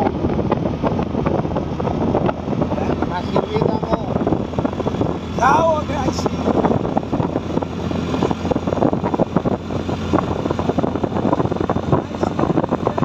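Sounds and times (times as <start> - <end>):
motorcycle engine and road hum: 0.0 - 13.0
wind buffeting microphone: 0.0 - 13.0.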